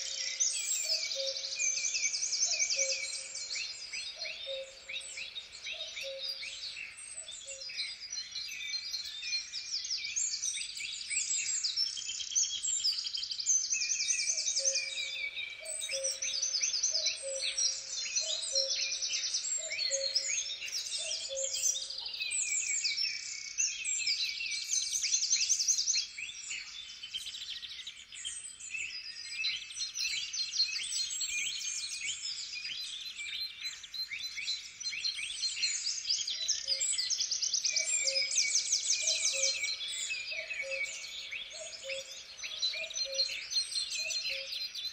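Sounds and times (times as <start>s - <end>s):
songbirds chorus: 0.0s - 44.9s.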